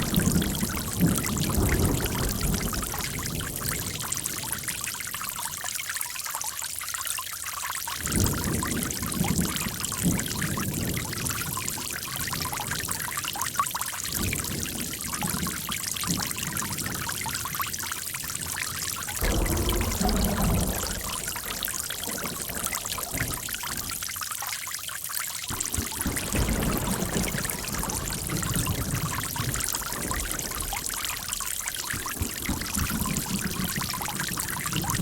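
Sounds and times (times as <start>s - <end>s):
water gurgling: 0.0s - 6.4s, 7.7s - 35.0s
running water trickling: 0.0s - 35.0s.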